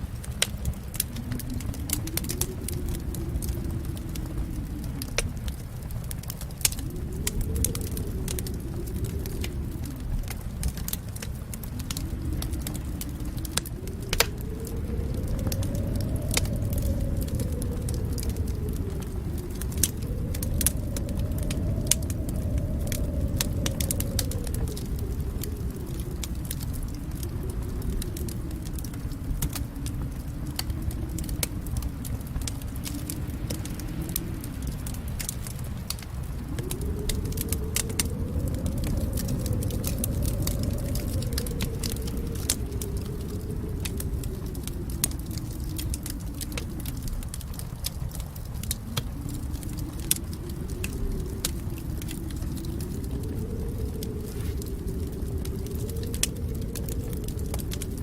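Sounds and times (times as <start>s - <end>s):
fire crackling and popping: 0.0s - 58.0s
low rumble: 0.0s - 58.0s.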